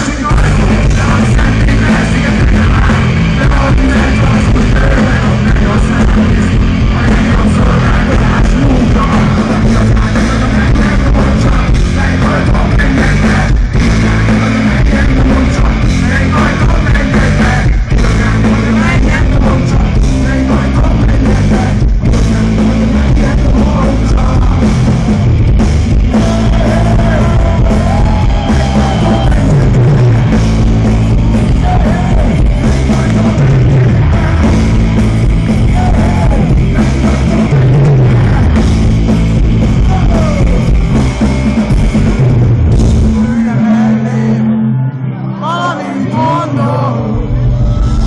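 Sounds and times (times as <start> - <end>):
person singing: 0.0 - 25.1, 26.0 - 35.0, 35.6 - 38.7, 39.7 - 40.9, 43.1 - 48.0
rock band playing live: 0.0 - 48.0.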